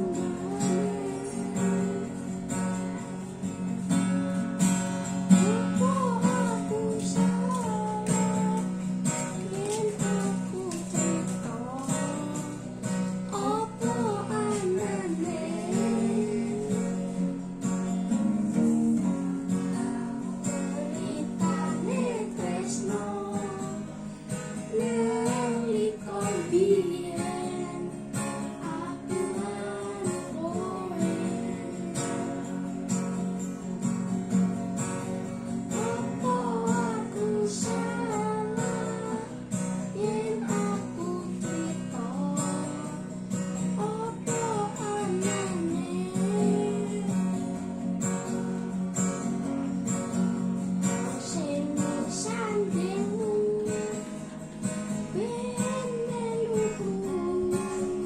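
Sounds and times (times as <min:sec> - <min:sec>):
person singing: 0:00.0 - 0:03.2, 0:03.9 - 0:32.7, 0:35.7 - 0:47.7, 0:50.9 - 0:58.0
strummed acoustic guitar: 0:00.0 - 0:58.0.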